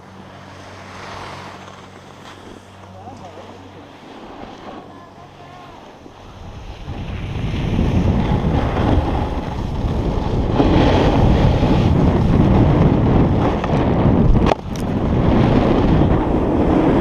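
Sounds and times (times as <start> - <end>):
snowboard sliding on snow: 0.0 - 17.0
wind rushing over microphone: 0.0 - 17.0.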